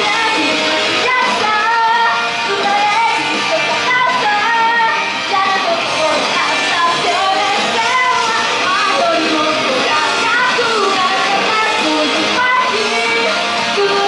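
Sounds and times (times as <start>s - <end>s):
loud backing music: 0.0s - 14.0s
woman singing: 0.0s - 14.0s.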